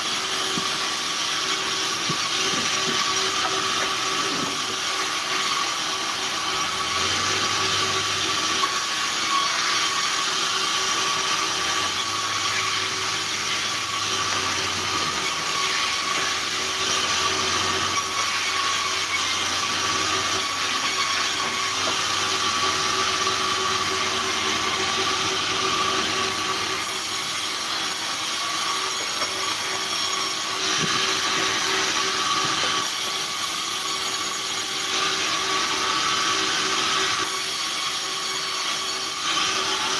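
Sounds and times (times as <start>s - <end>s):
high whine of saw blade: 0.0s - 39.9s
band saw ripping logs: 0.1s - 36.2s.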